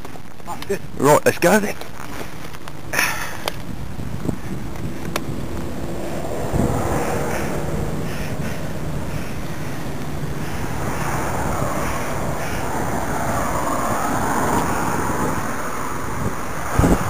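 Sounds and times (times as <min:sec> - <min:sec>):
tyres rolling on tarmac: 0:00.0 - 0:17.0
wind on microphone: 0:02.4 - 0:17.0.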